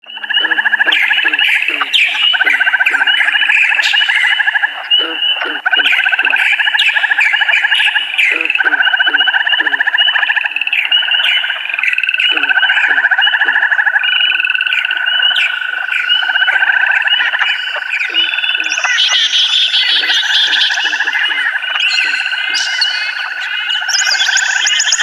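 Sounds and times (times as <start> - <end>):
small birds chirping and trilling: 0.0 - 25.0.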